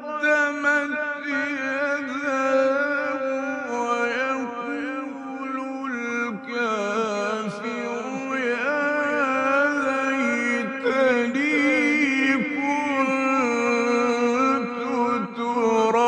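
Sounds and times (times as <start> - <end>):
man chanting melismatically: 0.0 - 16.0.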